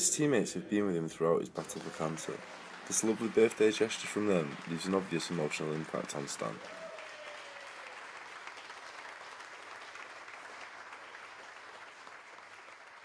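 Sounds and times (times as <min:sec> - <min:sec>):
people clapping and applauding: 0:01.6 - 0:13.0.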